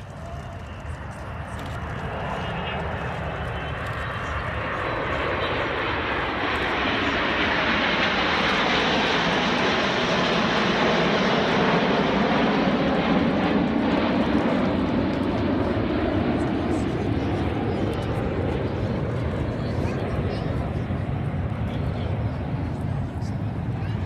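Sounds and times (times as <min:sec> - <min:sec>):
jet aircraft flying past: 0:00.0 - 0:24.0.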